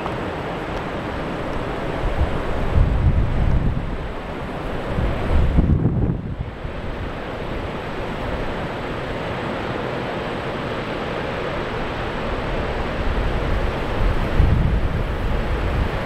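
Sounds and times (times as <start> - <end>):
surf breaking waves: 0.0 - 16.0
wind gusting against microphone: 0.0 - 16.0
wind roar: 0.0 - 16.0.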